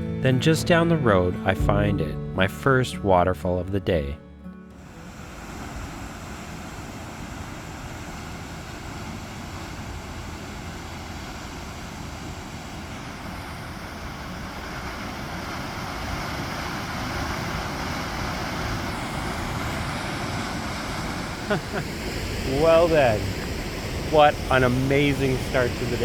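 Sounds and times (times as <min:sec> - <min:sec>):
waterfall rushing: 0:04.8 - 0:26.0.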